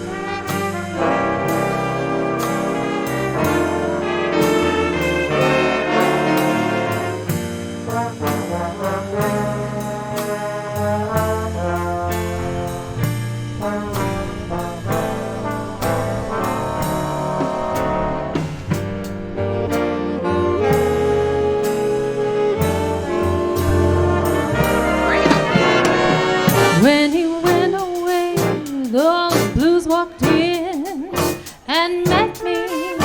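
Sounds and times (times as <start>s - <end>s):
brass section playing jazz ballad: 0.0s - 33.0s.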